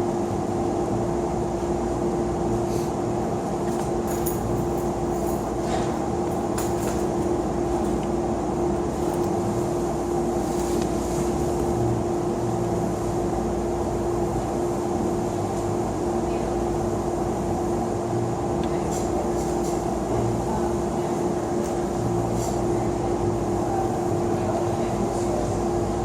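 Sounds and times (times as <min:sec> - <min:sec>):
fan whirring: 0:00.0 - 0:26.0.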